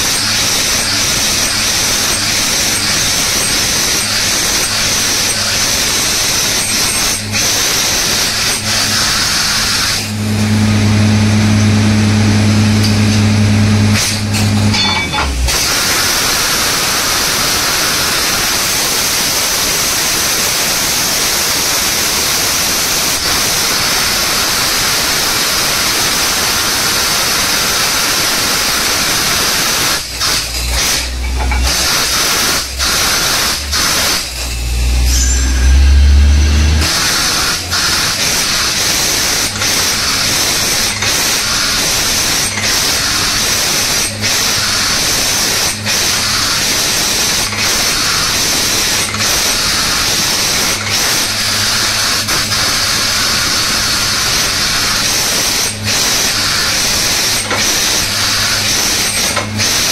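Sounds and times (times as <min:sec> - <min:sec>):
drilling rig rushing noise: 0:00.0 - 0:59.9.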